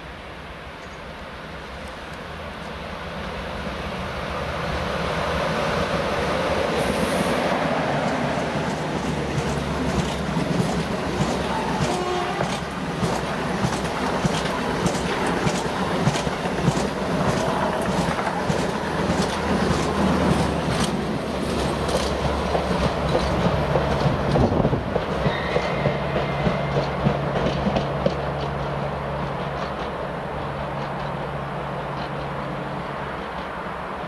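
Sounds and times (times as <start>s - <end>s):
train rushing past: 0.0s - 34.0s
train wheels clicking over rails: 5.8s - 33.8s.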